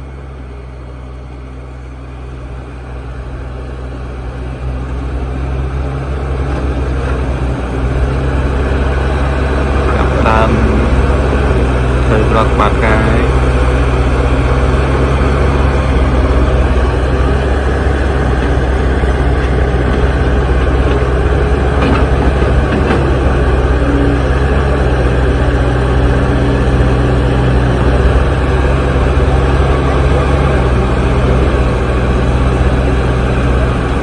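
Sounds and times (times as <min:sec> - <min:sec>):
diesel machinery engine running: 0:00.0 - 0:34.0.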